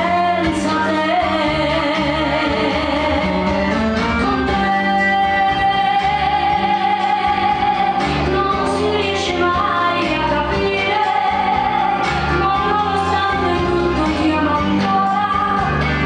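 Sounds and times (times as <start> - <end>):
ballroom dance music: 0.0 - 16.0.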